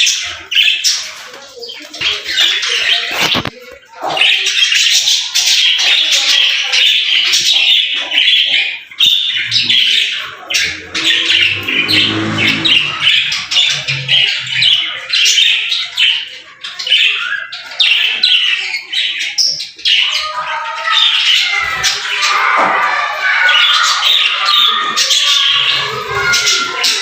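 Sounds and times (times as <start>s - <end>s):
budgerigars chirping and squawking: 0.0s - 27.0s.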